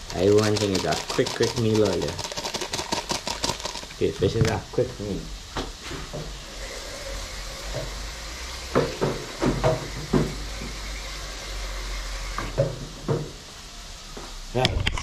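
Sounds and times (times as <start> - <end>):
pot sizzling and steaming: 0.0 - 14.6.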